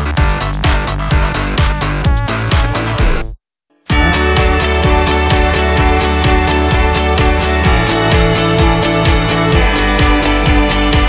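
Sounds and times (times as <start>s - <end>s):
music with driving beat and deep bass: 0.0s - 11.0s.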